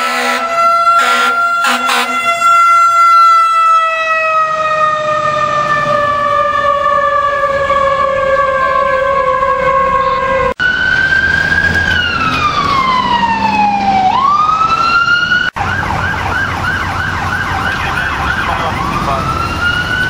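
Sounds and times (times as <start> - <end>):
falling siren tone: 0.0 - 20.0
wail siren: 0.0 - 20.0
yelp siren: 0.0 - 20.0.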